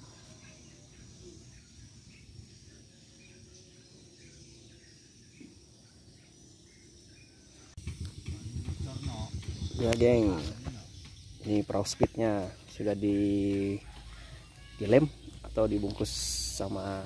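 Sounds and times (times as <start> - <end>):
bird chirps: 0.0 - 17.0
insect drone: 0.0 - 17.0.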